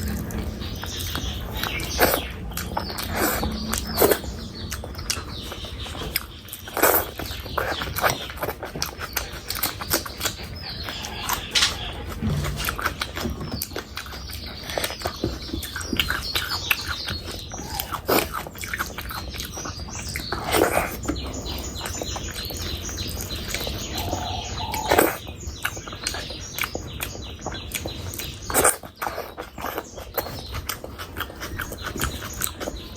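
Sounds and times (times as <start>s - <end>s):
wet chewing: 0.0s - 32.9s.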